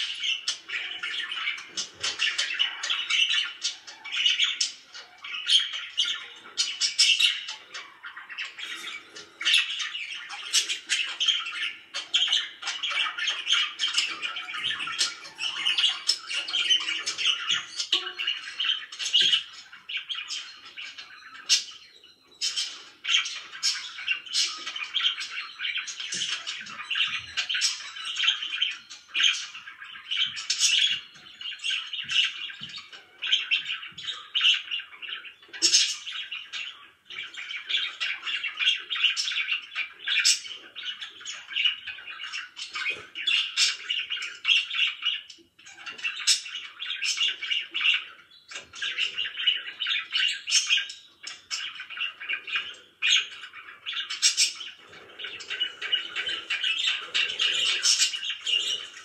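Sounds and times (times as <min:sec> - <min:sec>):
budgerigars chirping and warbling: 0:00.0 - 0:59.0.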